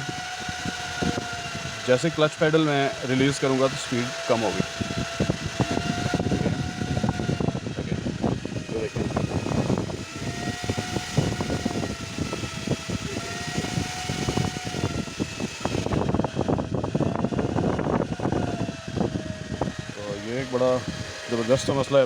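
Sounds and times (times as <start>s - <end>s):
rapid clicks and rattles: 0.0s - 22.0s
small fan whining: 0.0s - 22.0s.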